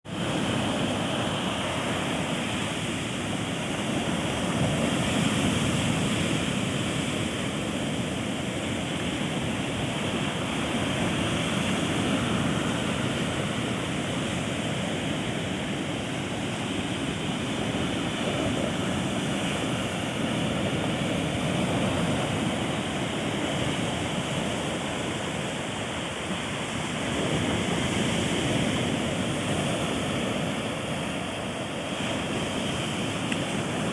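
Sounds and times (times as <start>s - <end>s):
ocean surf washing onto beach: 0.1s - 33.9s.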